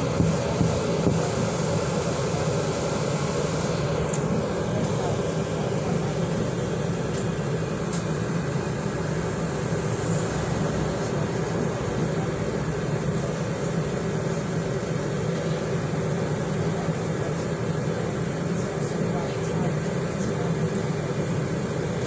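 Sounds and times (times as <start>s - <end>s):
bus diesel engine humming: 0.0s - 22.0s.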